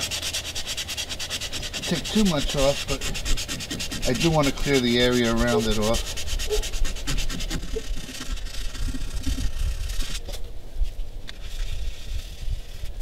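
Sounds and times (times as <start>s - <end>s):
hand rubbing a surface: 0.0s - 13.0s
sandpaper scratching strokes: 0.0s - 13.0s.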